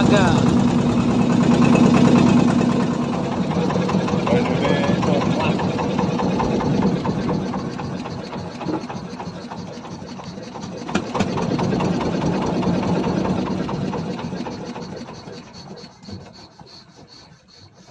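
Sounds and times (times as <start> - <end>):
boat engine running: 0.0 - 17.9.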